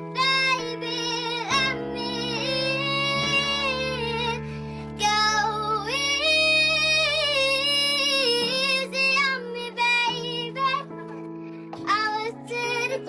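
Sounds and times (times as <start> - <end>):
child singing: 0.0 - 4.4, 5.0 - 11.0, 11.8 - 13.0.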